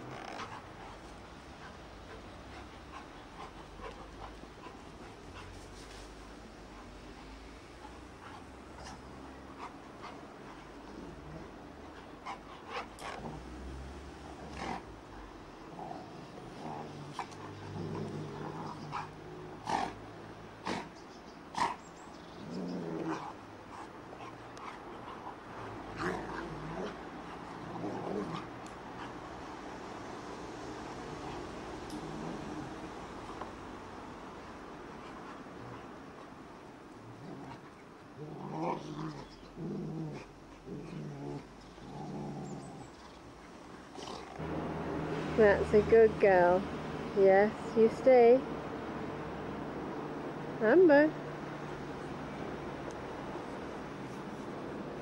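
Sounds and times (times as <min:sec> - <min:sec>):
dogs growling: 0:00.0 - 0:05.9, 0:06.6 - 0:45.9, 0:51.2 - 0:55.0.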